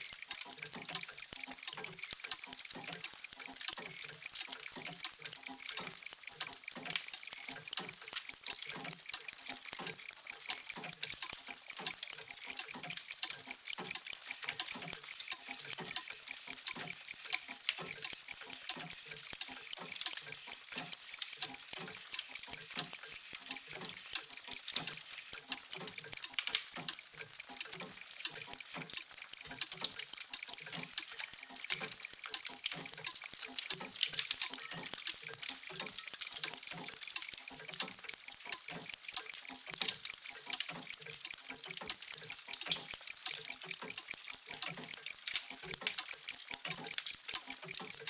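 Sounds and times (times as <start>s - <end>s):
mechanical clocks ticking: 0.0s - 48.0s.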